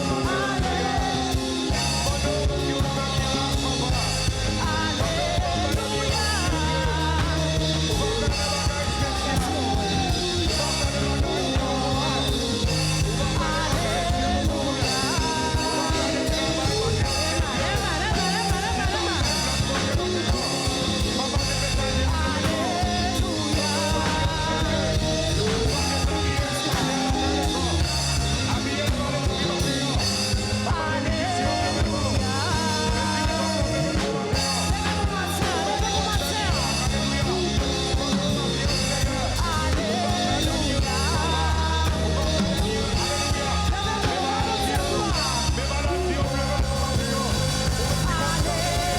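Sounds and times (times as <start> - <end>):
people singing: 0.0 - 48.9
worship band playing: 0.0 - 48.9.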